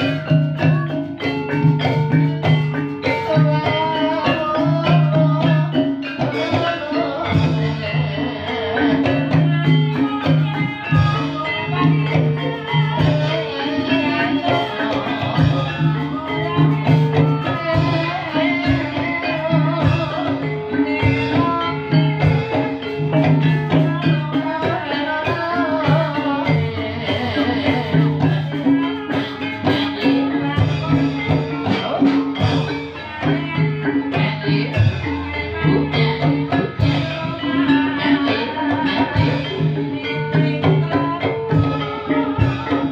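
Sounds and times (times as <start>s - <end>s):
drum strikes: 0.0s - 42.9s
live band music: 0.0s - 42.9s.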